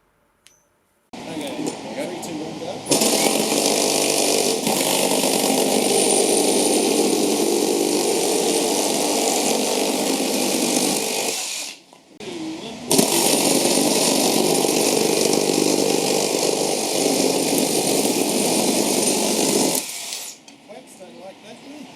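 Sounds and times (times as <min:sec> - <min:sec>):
reciprocating saw cutting: 0:01.2 - 0:20.4.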